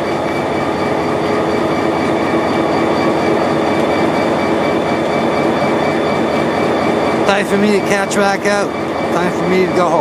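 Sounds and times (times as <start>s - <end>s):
high-pitched ringing tones: 0.0s - 10.0s
train wheels on rail: 0.0s - 10.0s.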